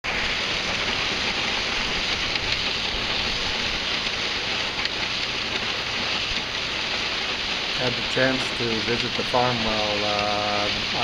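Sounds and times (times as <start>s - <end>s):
combine harvester rushing hiss: 0.1s - 11.0s.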